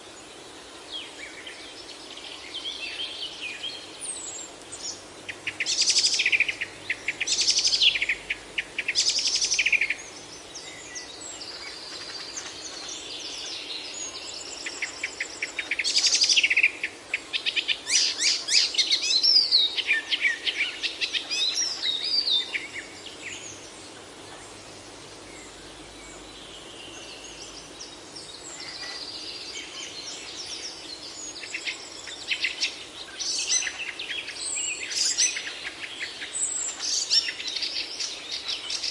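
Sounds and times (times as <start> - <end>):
background hiss: 0.0 - 38.9
songbirds singing and chirping: 0.0 - 38.9.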